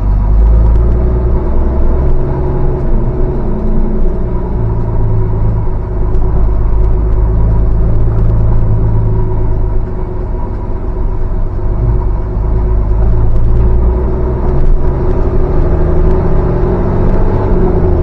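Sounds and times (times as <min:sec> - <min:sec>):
diesel coach engine running: 0:00.0 - 0:18.0.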